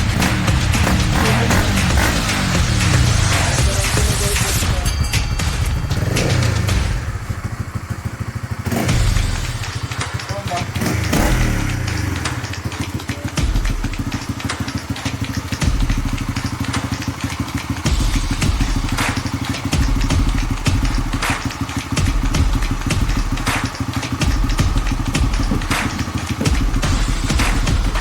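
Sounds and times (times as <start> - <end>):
motorcycle engine throttle blips: 0.0 - 28.0.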